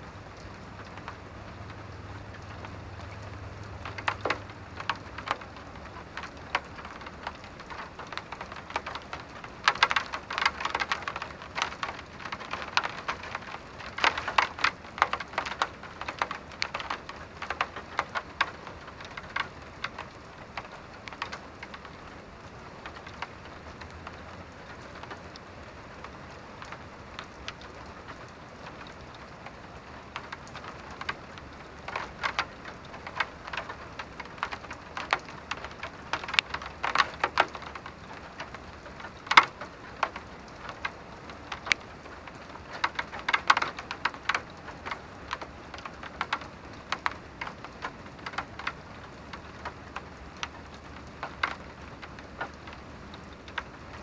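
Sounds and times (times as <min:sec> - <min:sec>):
rain hissing: 0:00.0 - 0:54.0
raindrops striking hard surface: 0:00.0 - 0:54.0.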